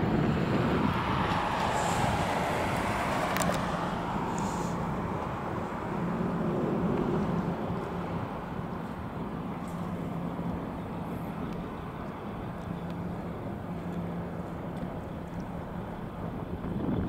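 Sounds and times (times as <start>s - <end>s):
distant traffic rumble: 0.0s - 17.0s
wind on microphone: 0.0s - 17.0s.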